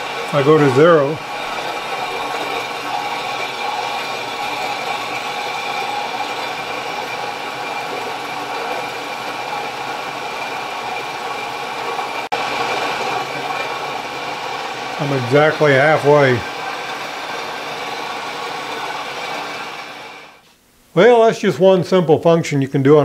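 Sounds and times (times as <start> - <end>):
milling machine motor humming: 0.0 - 20.4.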